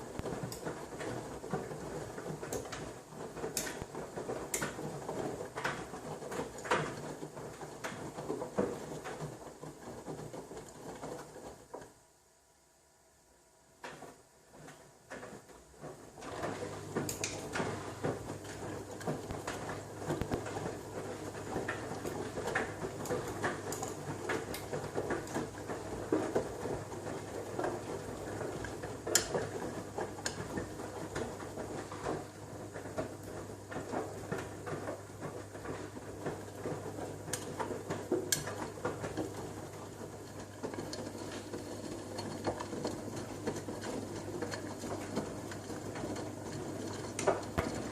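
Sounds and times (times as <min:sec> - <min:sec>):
laundry sloshing and pattering: 0:00.0 - 0:12.0, 0:14.0 - 0:47.9
washing machine motor hum: 0:00.0 - 0:47.9.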